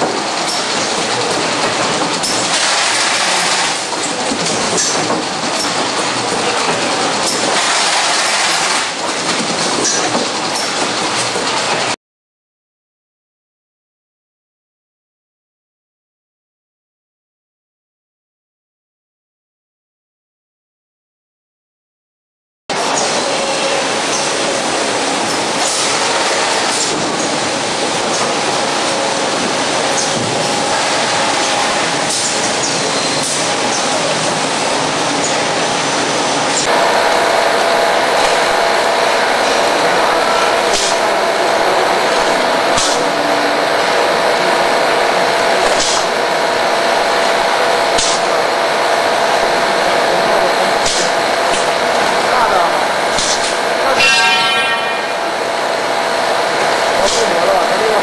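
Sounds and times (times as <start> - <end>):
packing line machinery din: 0.0 - 12.0, 22.7 - 58.0.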